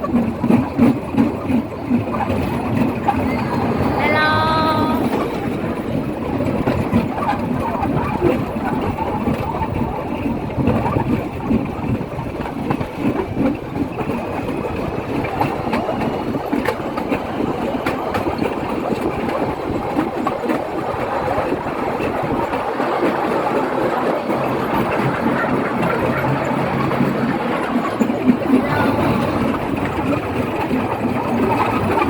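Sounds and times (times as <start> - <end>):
vehicle engine rumbling and rattling: 5.1 - 32.0.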